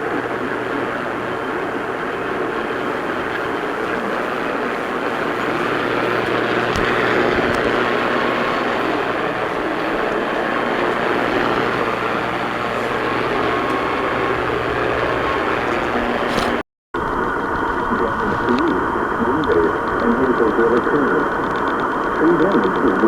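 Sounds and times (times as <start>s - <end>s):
low steady hum: 0.0s - 23.0s
radio static hiss: 0.0s - 23.0s.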